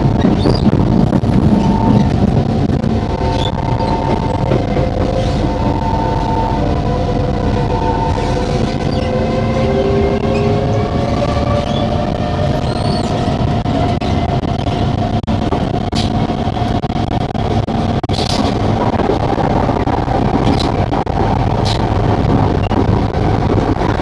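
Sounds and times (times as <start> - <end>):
train wheels rumbling: 0.0 - 24.0
train whining tones: 0.0 - 24.0.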